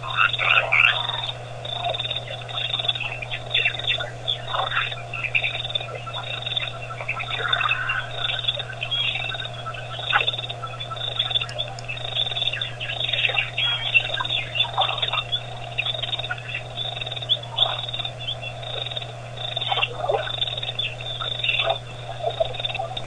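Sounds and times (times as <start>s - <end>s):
birds chirping and calling: 0.0s - 23.0s
steady low hum: 0.0s - 23.0s.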